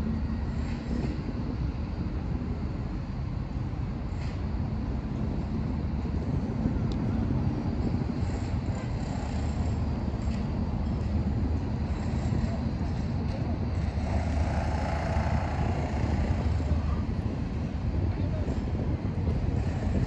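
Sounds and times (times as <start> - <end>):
tugboat diesel engines rumbling: 0.0 - 20.0.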